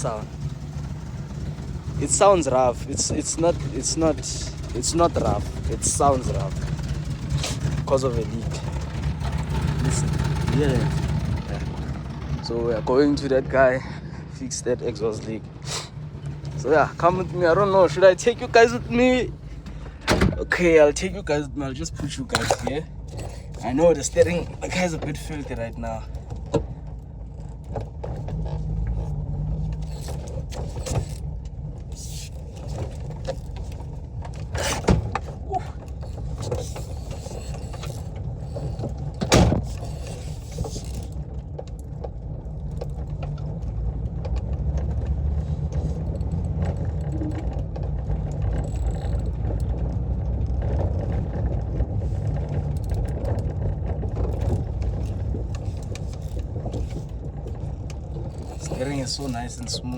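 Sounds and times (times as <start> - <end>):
rough van engine rumble: 0.0 - 59.9.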